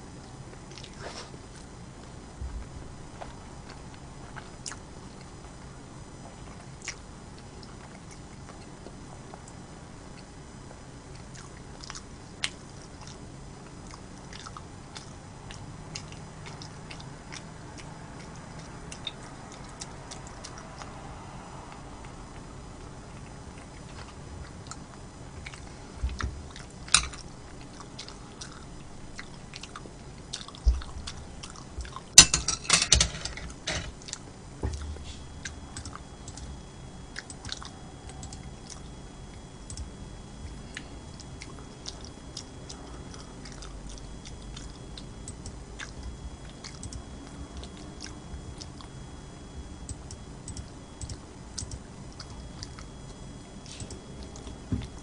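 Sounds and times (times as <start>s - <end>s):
person chewing food: 0.5s - 2.2s, 3.1s - 5.6s, 6.2s - 21.0s, 21.7s - 32.1s, 33.9s - 55.0s.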